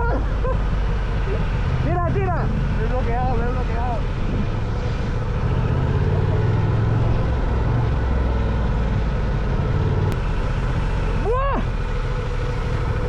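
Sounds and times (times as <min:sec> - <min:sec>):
motorcycle engine rumble: 0:00.0 - 0:13.0
wind: 0:00.0 - 0:13.0.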